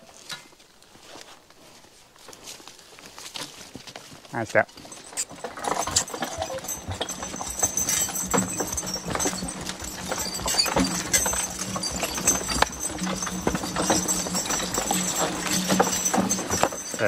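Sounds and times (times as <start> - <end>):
hooves on dirt trail: 0.0 - 17.0.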